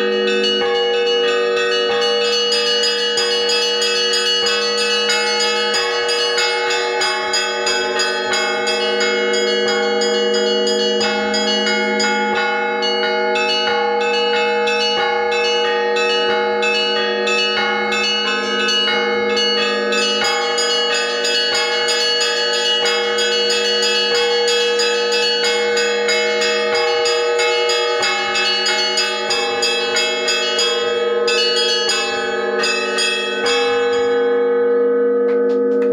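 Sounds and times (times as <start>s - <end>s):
hum of large bells: 0.0s - 35.9s
small church bells striking: 0.0s - 35.9s.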